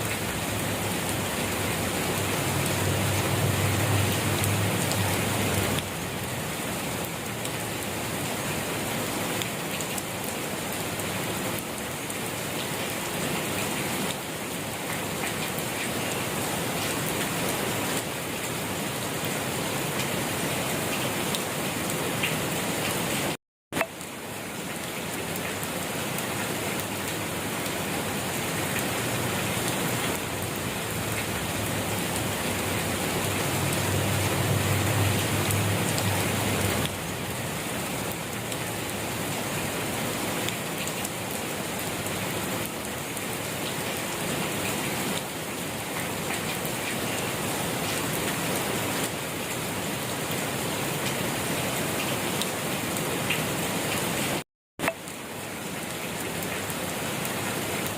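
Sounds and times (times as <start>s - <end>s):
rain pattering on surfaces: 0.0s - 57.9s.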